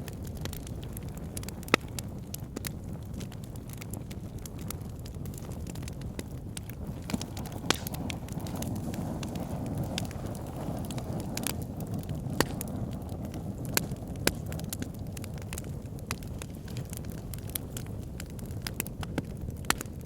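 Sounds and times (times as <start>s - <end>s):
fire pit crackling: 0.0s - 20.0s.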